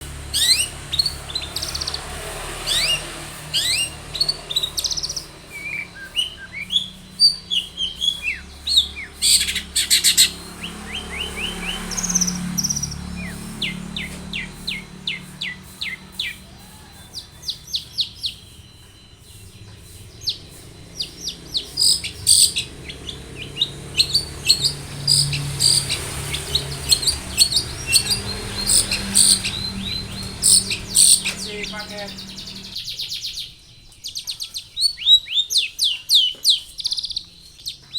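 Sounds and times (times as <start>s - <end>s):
shrike singing: 0.0s - 37.9s.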